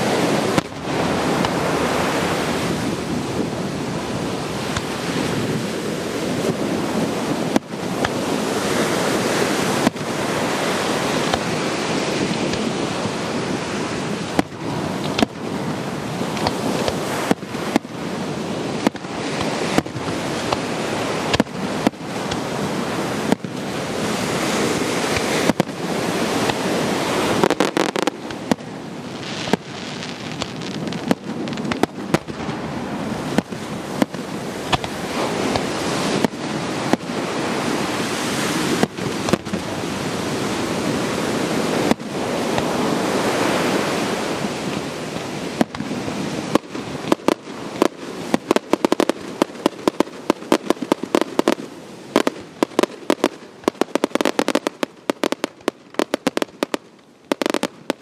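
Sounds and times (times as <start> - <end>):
fireworks cracks and bangs: 0.0 - 3.5, 4.5 - 58.0
fireworks crackling: 0.0 - 58.0.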